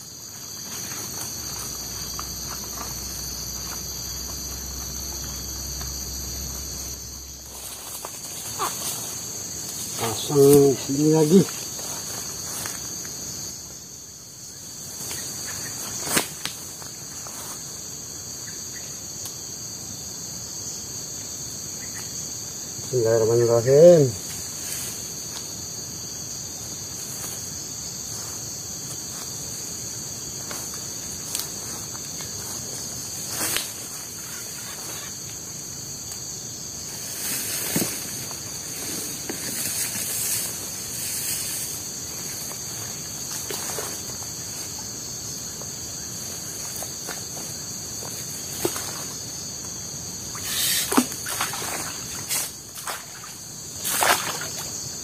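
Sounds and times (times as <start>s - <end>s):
forest insects chorus: 0.0s - 55.0s.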